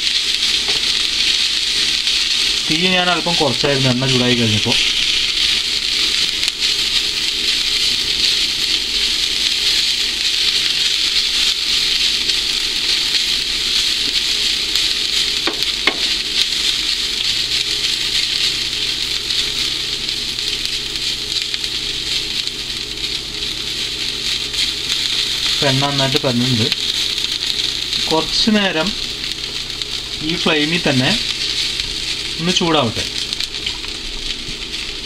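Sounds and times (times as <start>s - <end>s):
vegetables sizzling in a frying pan: 0.0s - 35.0s.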